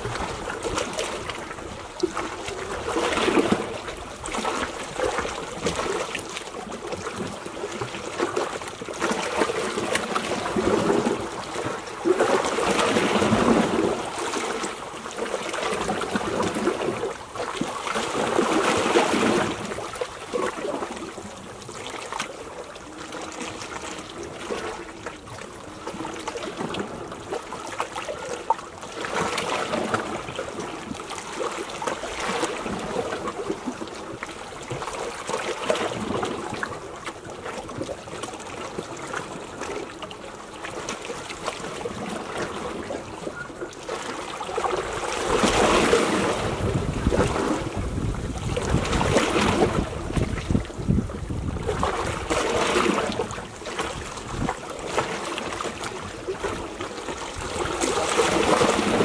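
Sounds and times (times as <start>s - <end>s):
waves lapping on rocky shore: 0.0s - 59.0s.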